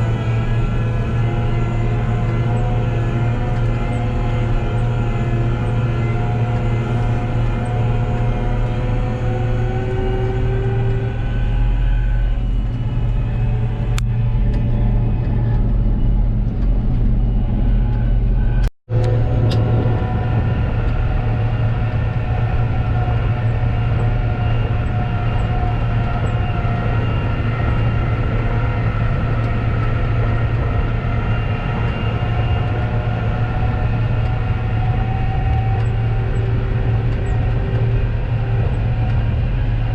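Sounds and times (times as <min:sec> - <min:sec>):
diesel engine droning: 0:00.0 - 0:39.9
drivetrain whine: 0:00.0 - 0:39.9.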